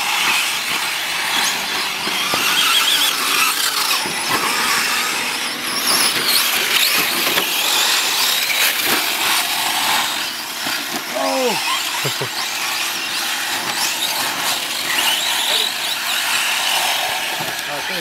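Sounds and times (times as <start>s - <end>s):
rc truck motors whining: 0.0s - 18.0s.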